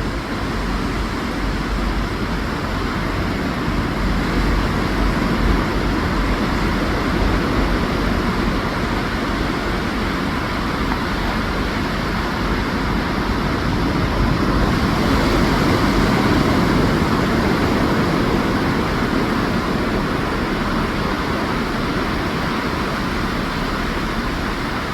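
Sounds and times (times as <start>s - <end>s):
ocean surf washing onto beach: 0.0s - 24.9s.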